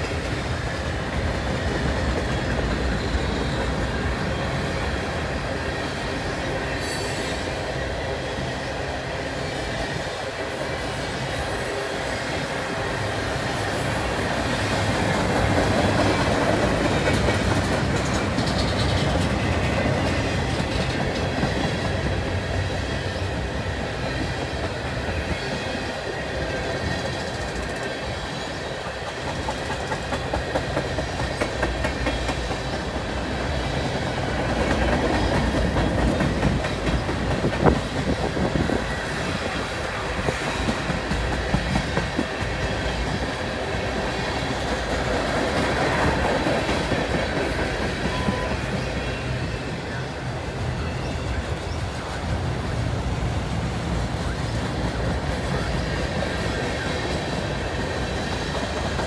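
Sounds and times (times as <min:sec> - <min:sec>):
clickety-clack over rail joints: 0:00.0 - 0:07.8, 0:09.5 - 0:59.0
train wheels rumbling on rails: 0:00.0 - 0:59.0.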